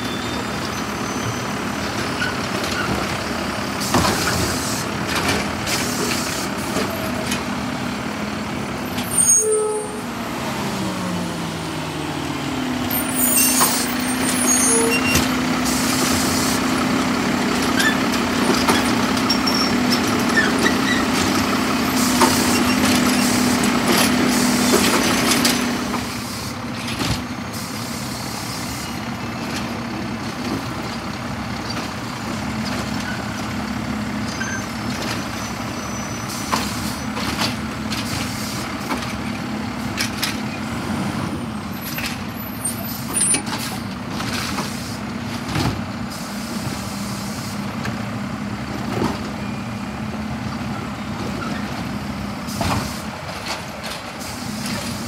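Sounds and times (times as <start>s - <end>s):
garbage truck engine: 0.0s - 55.0s.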